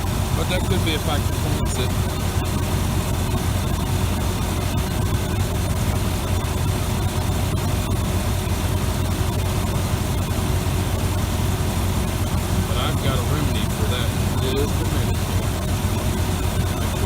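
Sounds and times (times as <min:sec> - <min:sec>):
engine fan running: 0:00.0 - 0:17.0
engine idling: 0:00.0 - 0:17.0.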